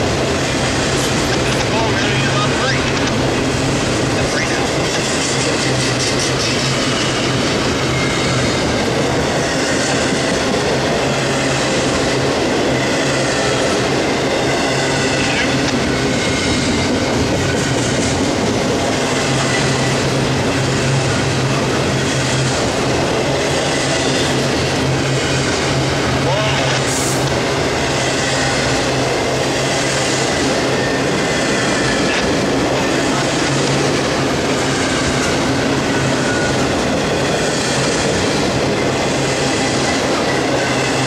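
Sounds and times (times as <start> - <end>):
steel wheels rumbling on rail: 0.0 - 41.0.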